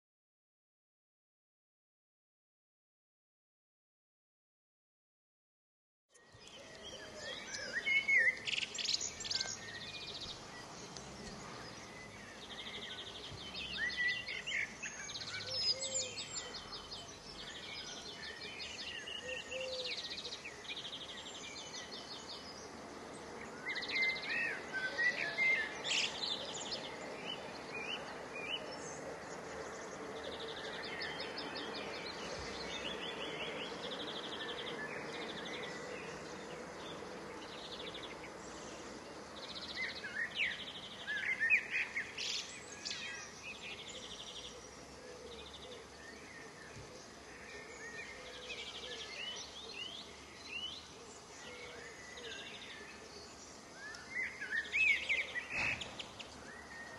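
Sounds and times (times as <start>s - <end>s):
outdoor background noise: 6.1s - 56.9s
small songbirds singing: 6.1s - 56.9s.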